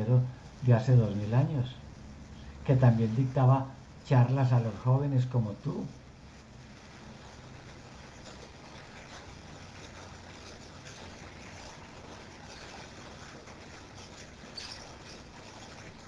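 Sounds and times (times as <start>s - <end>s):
faint hiss over phone line: 0.0s - 16.0s.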